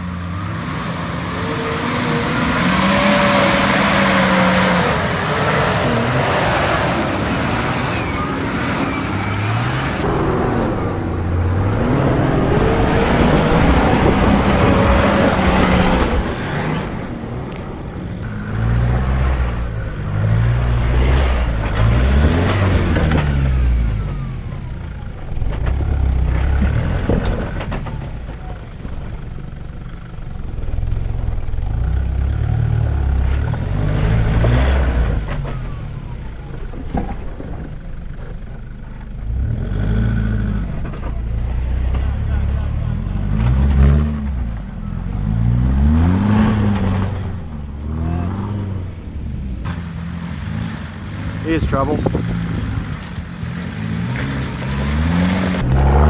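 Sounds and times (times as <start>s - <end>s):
off-road engines revving and labouring: 0.0s - 56.0s.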